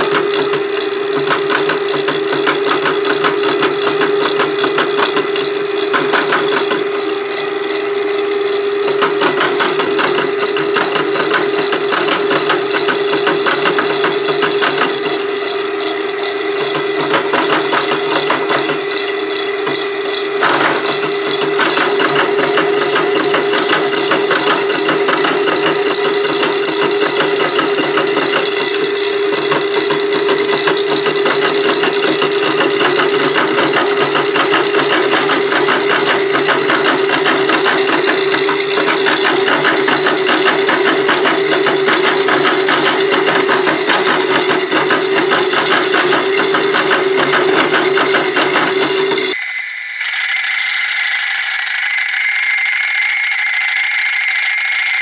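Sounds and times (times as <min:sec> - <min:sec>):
milling saw high tone: 0:00.0 - 0:55.0
saw teeth chattering on metal: 0:00.0 - 0:55.0.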